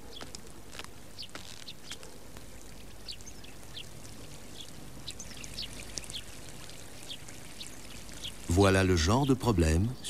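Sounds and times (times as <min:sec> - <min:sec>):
tape hiss: 0:00.0 - 0:10.0.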